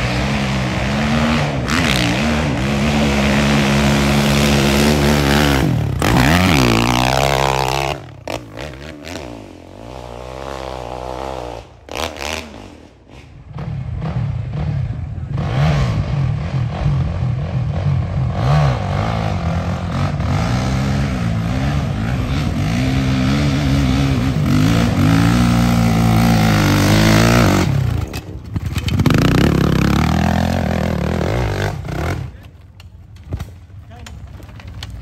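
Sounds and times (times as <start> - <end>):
dirt bike engine revving: 0.0 - 32.6.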